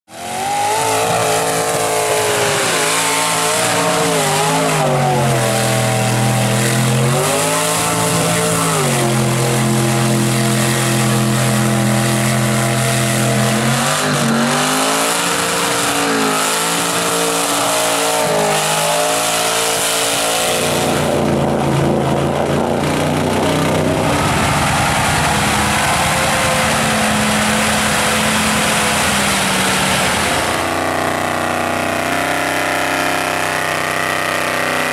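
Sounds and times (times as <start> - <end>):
truck engines revving: 0.0 - 34.9.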